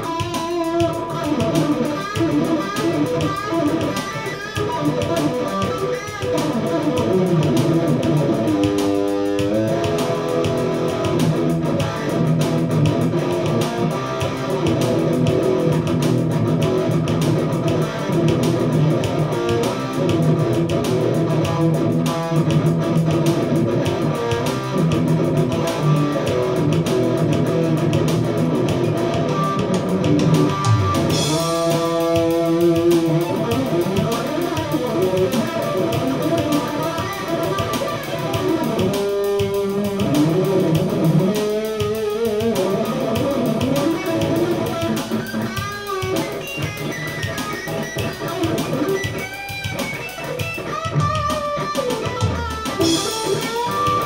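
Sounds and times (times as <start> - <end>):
electric guitar riffs through amplifier: 0.0 - 54.0.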